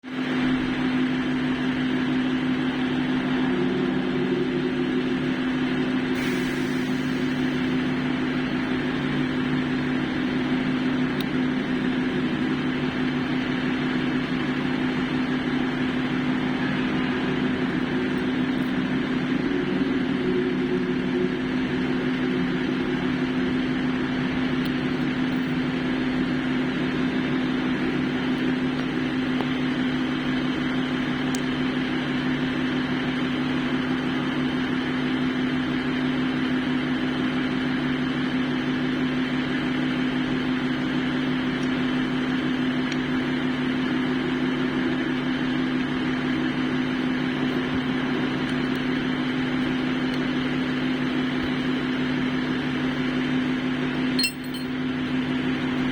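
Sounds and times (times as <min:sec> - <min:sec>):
machine drone with hum and hiss: 0:00.1 - 0:55.9.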